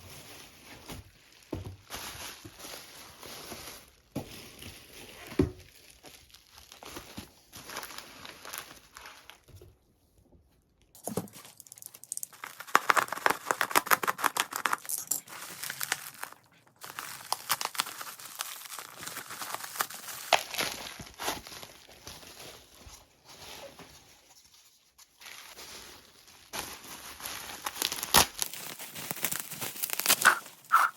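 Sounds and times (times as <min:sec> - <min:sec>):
packaging crinkling and tearing: 0:00.1 - 0:09.5, 0:11.0 - 0:22.8, 0:25.2 - 0:30.9.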